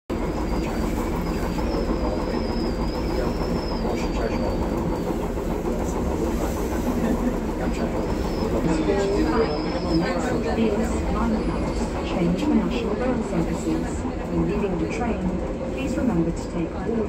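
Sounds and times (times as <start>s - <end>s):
train rumble and rattle: 0.1s - 17.0s.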